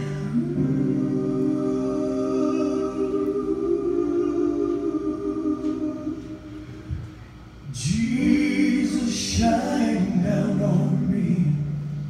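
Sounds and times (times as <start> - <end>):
male trio singing a cappella: 0.3 - 6.5, 7.7 - 11.8.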